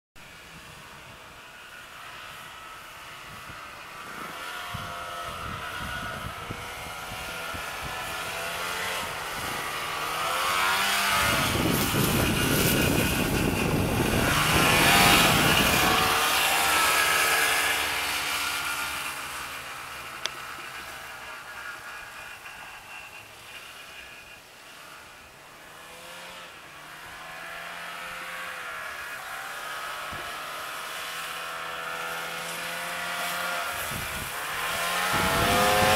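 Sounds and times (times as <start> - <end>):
snowmobile engine passing by: 0.3 - 35.9.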